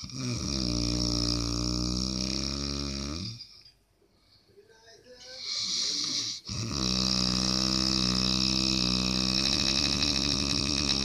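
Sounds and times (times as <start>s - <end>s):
person snoring: 0.0s - 3.5s, 5.4s - 11.0s.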